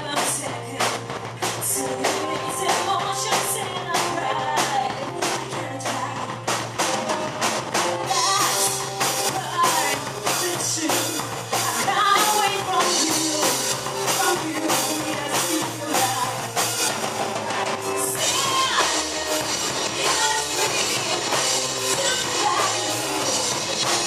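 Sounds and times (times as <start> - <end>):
person singing: 0.0 - 7.4, 8.0 - 24.0
drum kit beat: 0.0 - 24.0.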